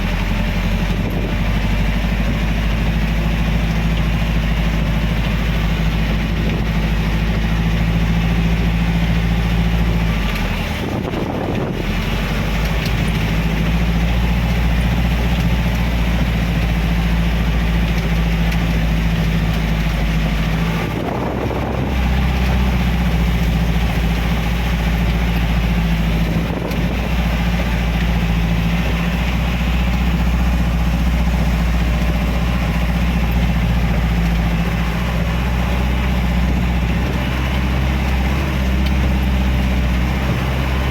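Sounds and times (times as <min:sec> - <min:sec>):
car engine running: 0:00.0 - 0:40.9
tyres on a wet road: 0:00.0 - 0:40.9.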